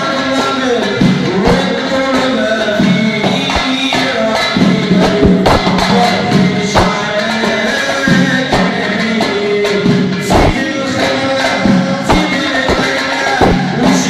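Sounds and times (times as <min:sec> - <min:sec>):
frame drums beating: 0:00.0 - 0:14.0
man singing a chant: 0:00.0 - 0:14.0.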